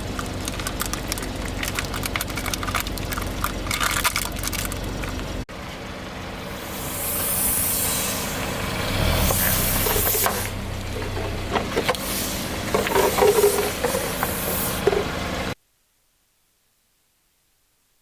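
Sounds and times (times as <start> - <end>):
car engine running slowly: 0.0 - 15.6.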